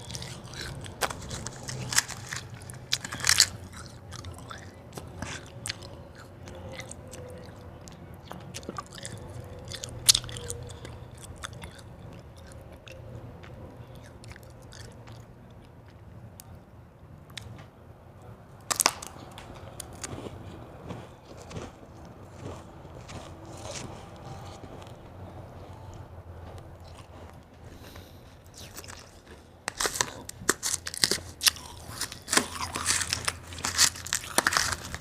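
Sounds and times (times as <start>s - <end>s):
ice crunching between teeth: 0.0s - 16.7s, 18.6s - 35.0s.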